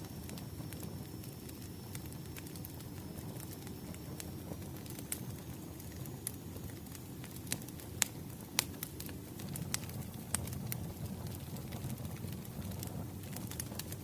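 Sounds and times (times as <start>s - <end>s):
low rumble of burning logs: 0.0s - 14.0s
wood fire crackling: 0.0s - 14.0s.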